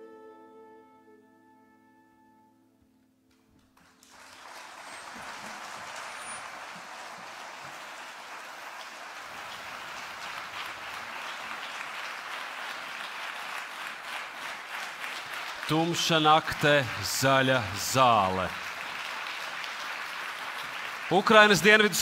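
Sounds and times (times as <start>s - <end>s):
audience applause: 3.6s - 22.0s.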